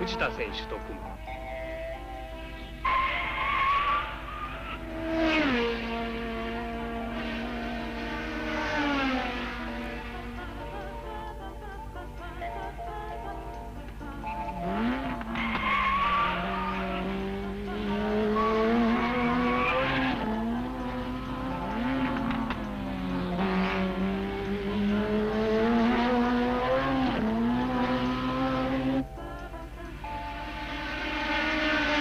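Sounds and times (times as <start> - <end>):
racing car engine at high revs: 0.0 - 32.0.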